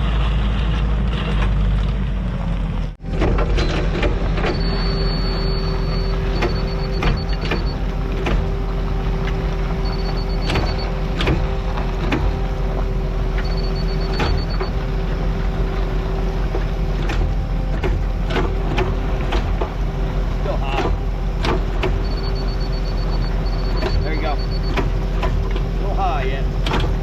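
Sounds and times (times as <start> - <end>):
diesel engine rumbling: 0.0 - 27.0
machine clanks and knocks: 3.0 - 25.8, 26.5 - 27.0.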